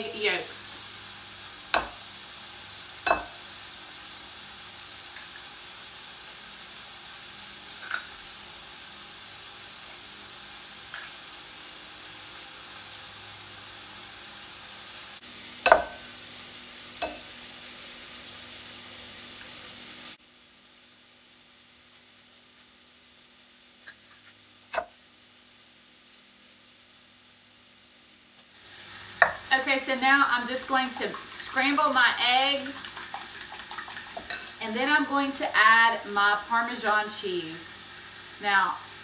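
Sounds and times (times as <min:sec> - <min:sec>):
bacon sizzling in a skillet: 0:00.0 - 0:39.0.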